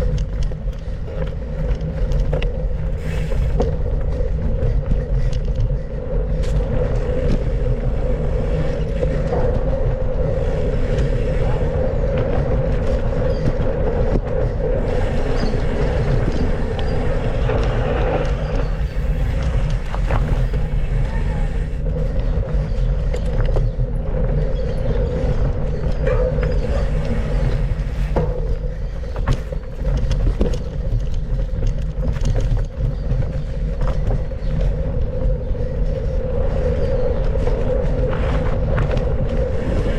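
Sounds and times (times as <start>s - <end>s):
bike clicks and knocks: 0.0s - 39.9s
rushing rumble with hum: 0.0s - 39.9s.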